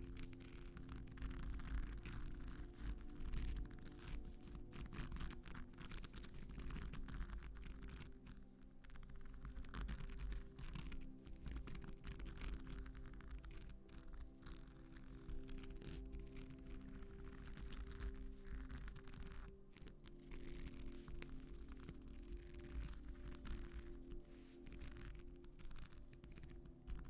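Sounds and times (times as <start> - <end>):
scratching on textured surface: 0.0 - 27.0
soft background music: 0.0 - 27.0.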